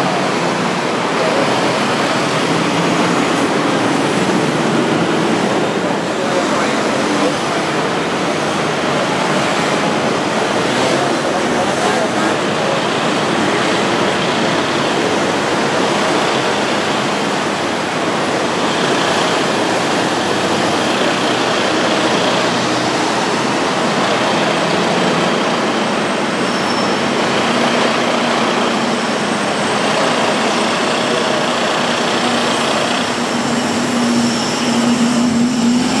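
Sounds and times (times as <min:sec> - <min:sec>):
bus engine humming: 0:00.0 - 0:36.0
vehicles passing: 0:00.0 - 0:36.0.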